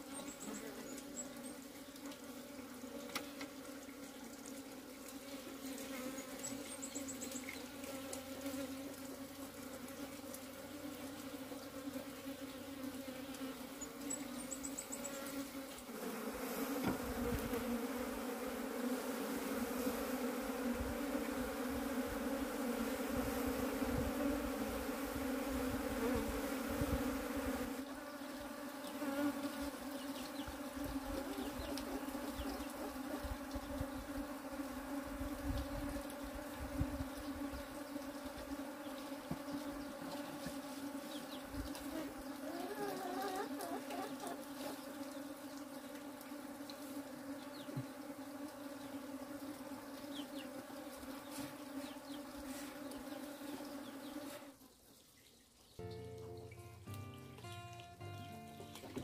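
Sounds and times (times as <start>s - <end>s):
honey bees buzzing: 0.0s - 54.7s, 55.8s - 59.0s.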